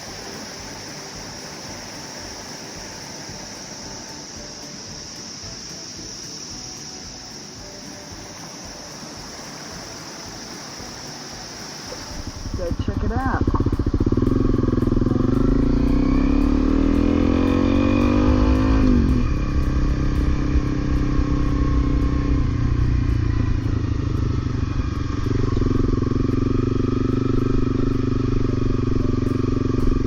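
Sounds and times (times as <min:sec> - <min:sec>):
motorcycle engine pulling away: 0:00.0 - 0:30.0.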